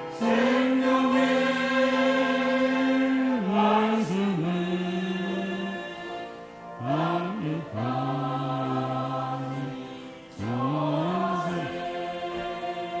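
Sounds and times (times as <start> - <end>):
voices singing a praise song: 0.0 - 13.0.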